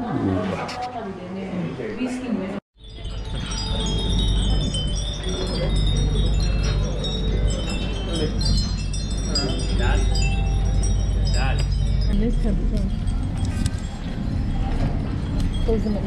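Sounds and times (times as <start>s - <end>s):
small chimes tinkling: 2.8s - 16.0s
steady low hum: 2.8s - 16.0s.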